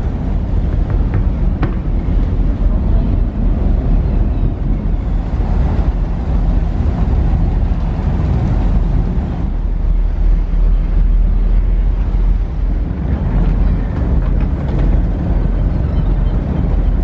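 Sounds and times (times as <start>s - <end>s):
ferry engines running: 0.0s - 17.0s
propeller churning water: 0.0s - 17.0s
wind on microphone: 0.0s - 17.0s.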